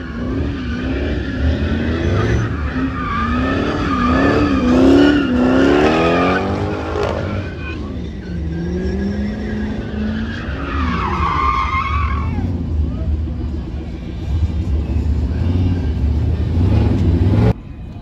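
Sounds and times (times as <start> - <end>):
car engine revving: 0.0 - 17.6
tires squealing: 0.0 - 17.6.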